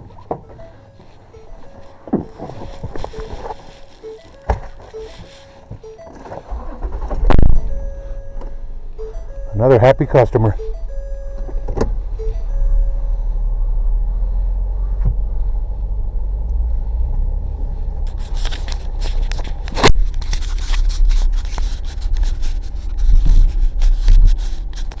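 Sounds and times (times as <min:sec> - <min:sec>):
car interior rumble: 0:00.0 - 0:25.0.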